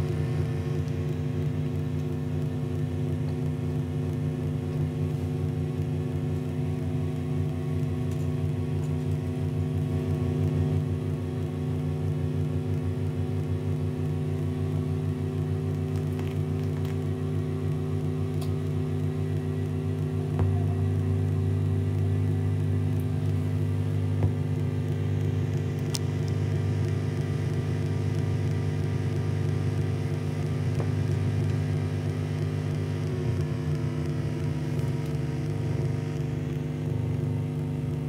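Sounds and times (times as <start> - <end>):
fluttering electronic drone: 0.0 - 38.0.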